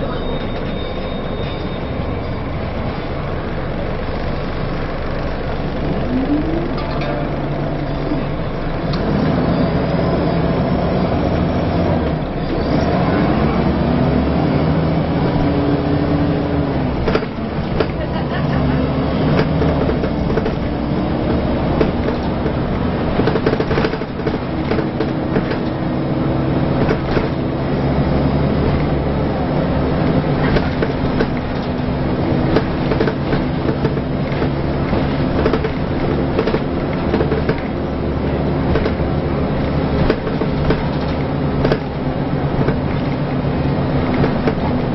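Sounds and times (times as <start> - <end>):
bus body rattles and squeaks: 0.0 - 44.9
bus engine and gearbox whine: 0.0 - 44.9.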